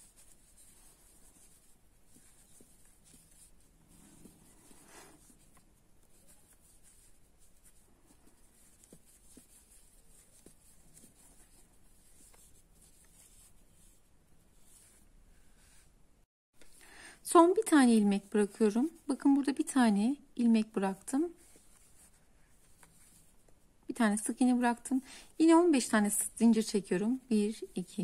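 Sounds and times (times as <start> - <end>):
crochet hook rustling yarn: 0.0 - 28.0.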